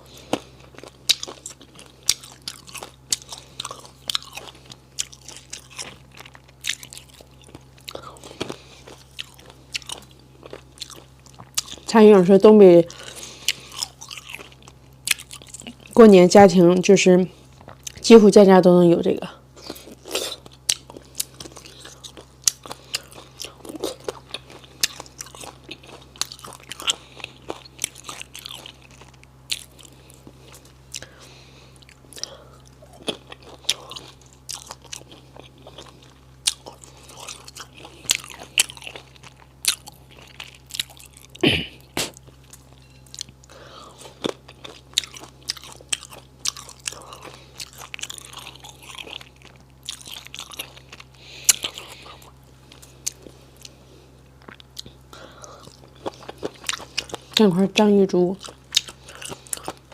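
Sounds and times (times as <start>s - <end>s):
chewing and crunching: 0.0s - 16.5s, 17.3s - 18.2s, 19.1s - 59.9s
faint low hum: 0.0s - 59.9s.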